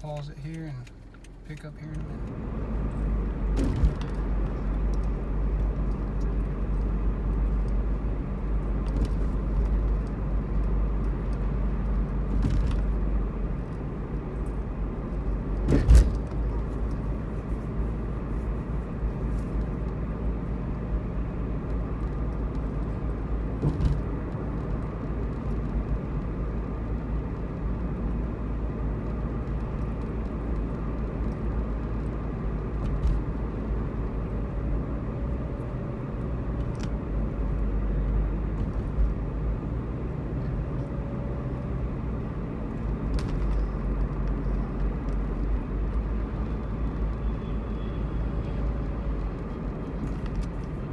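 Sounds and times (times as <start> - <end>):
road and engine rumble: 0.0 - 50.9.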